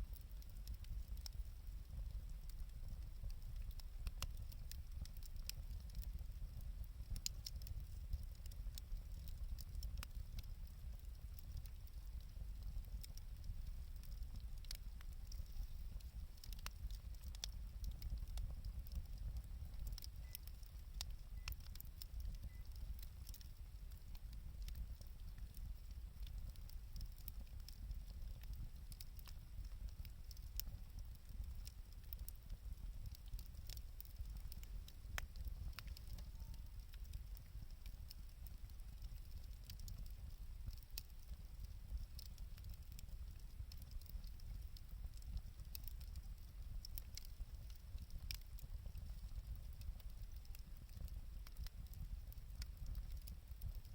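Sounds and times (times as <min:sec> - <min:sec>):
low steady rumble: 0:00.0 - 0:53.9
wood fire crackling and popping: 0:00.0 - 0:53.9.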